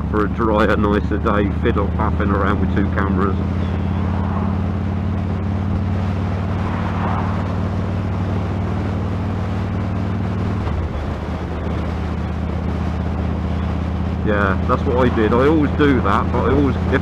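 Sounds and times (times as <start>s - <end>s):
motorcycle engine running: 0.0s - 17.0s
heavy wind noise: 1.8s - 17.0s.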